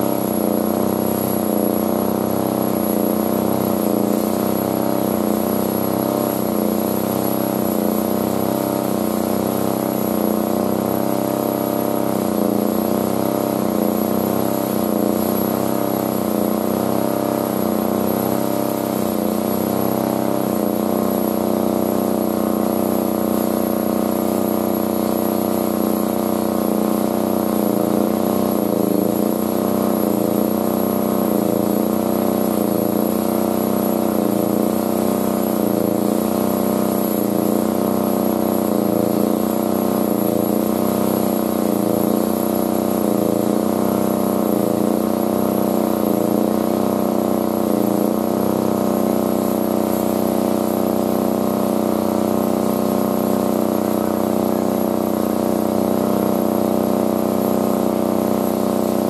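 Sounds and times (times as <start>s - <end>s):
engine humming steadily: 0.0s - 59.0s.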